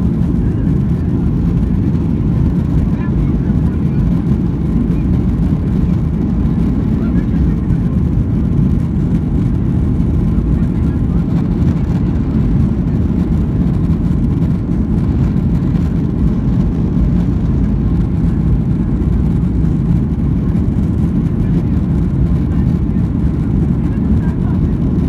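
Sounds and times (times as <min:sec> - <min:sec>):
jet engine cabin rumble: 0:00.0 - 0:25.0.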